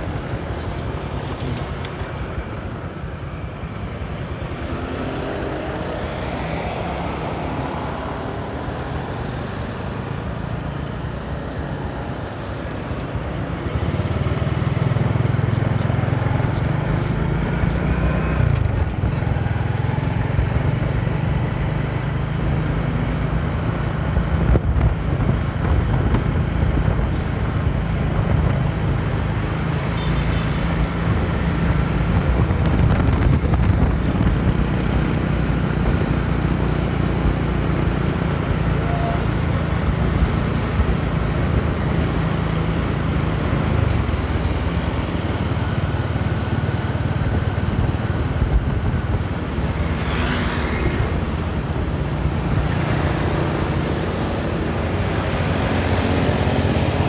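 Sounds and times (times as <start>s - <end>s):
wind noise on microphone: 0.0s - 19.6s, 22.5s - 57.0s
motorcycle engine drone: 0.0s - 57.0s.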